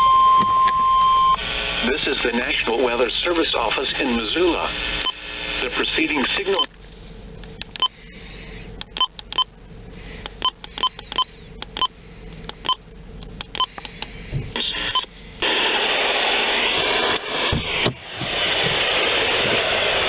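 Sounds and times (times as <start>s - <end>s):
radio static hiss: 1.4s - 8.8s, 9.8s - 20.0s.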